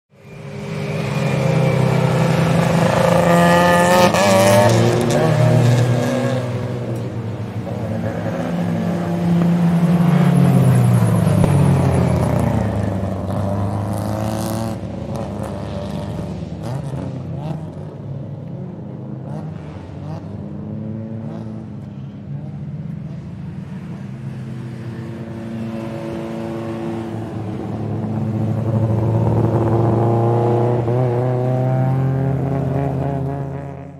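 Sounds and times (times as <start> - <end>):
race car engines revving: 0.2 - 33.9.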